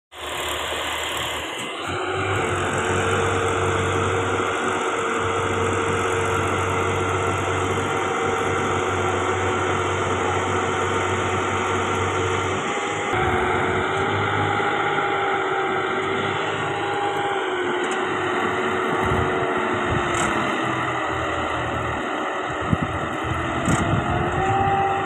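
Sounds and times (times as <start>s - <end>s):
tractor diesel engine drone: 0.1s - 25.0s
machinery whine: 0.2s - 25.0s.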